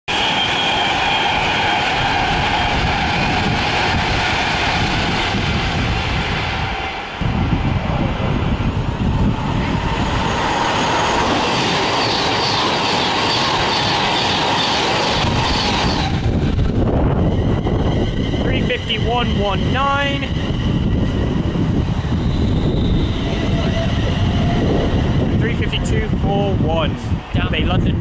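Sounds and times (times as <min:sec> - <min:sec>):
electric trains passing: 0:00.1 - 0:28.0.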